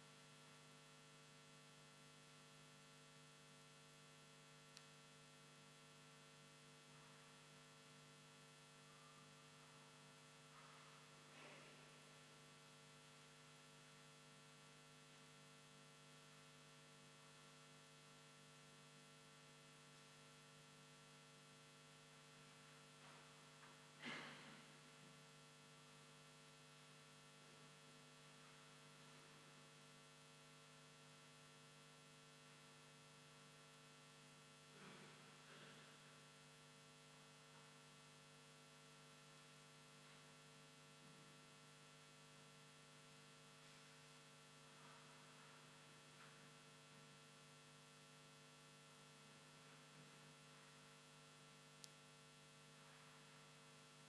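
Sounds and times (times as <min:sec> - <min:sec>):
electrical mains hum: 0:00.0 - 0:54.0.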